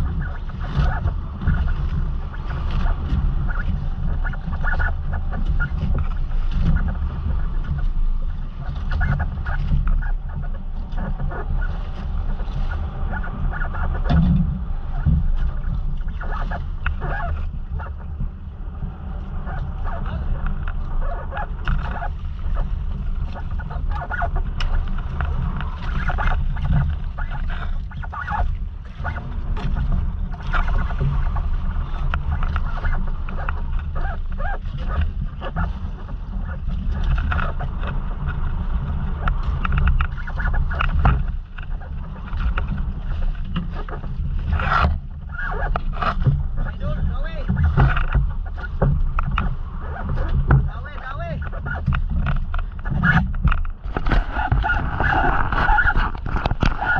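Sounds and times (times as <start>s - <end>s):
boat engine droning: 0.0s - 56.9s
water and wind rushing: 0.0s - 56.9s.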